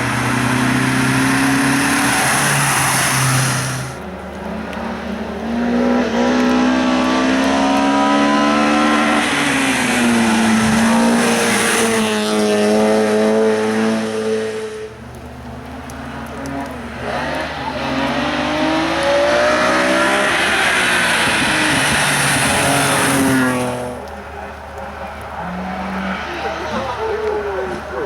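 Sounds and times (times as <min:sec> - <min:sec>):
car engine shifting gears: 0:00.0 - 0:28.0
race car engines at full throttle: 0:00.0 - 0:28.0.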